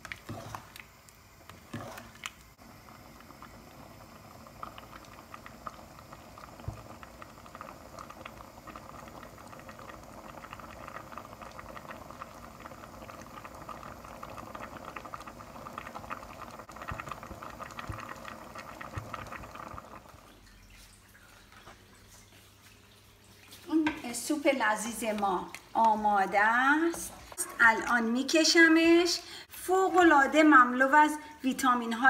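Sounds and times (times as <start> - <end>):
soup bubbles popping: 0.0 - 24.0, 24.7 - 28.1.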